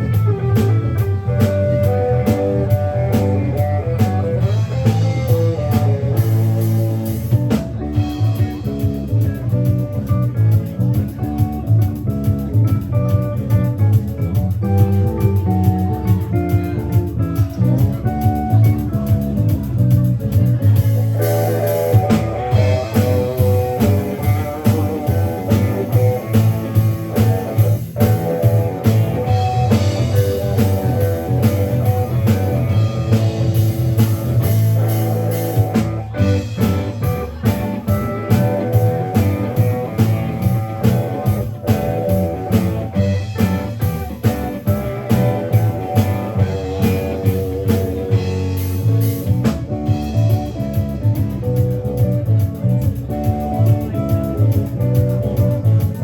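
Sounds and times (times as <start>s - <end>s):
bass guitar: 0.0s - 56.0s
drum kit beat: 0.0s - 56.0s
electric guitar: 0.0s - 56.0s.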